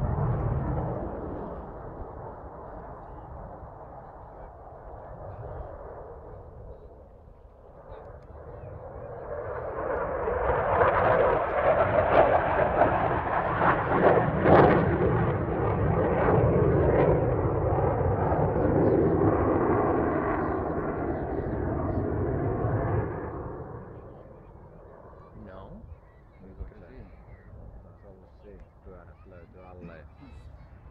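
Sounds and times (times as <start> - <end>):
jet engine roar overhead: 0.0 - 30.9.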